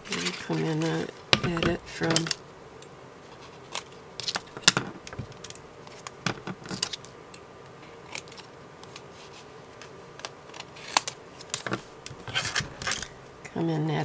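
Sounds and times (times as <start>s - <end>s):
stiff paper rustling and crinkling: 0.0s - 2.3s, 3.2s - 7.1s, 7.8s - 13.2s.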